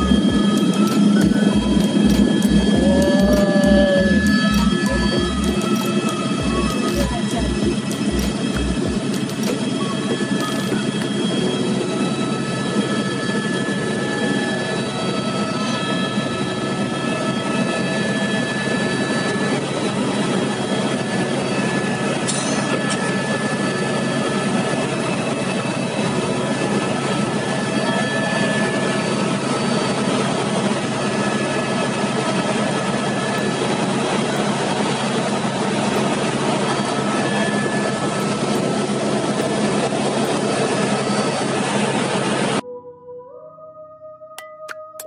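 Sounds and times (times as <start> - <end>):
helicopter engine and rotor drone: 0.0 - 42.6
constant whining tones: 0.0 - 42.9.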